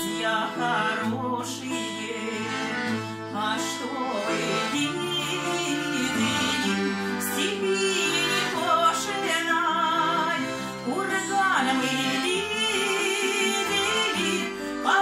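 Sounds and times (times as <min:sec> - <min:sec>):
acoustic guitar: 0:00.0 - 0:15.0
button accordion: 0:00.0 - 0:15.0
woman singing with vibrato: 0:00.0 - 0:15.0.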